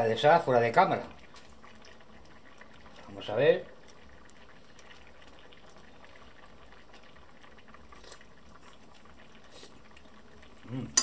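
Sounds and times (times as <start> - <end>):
sauce bubbling in a frying pan: 0.0 - 11.0.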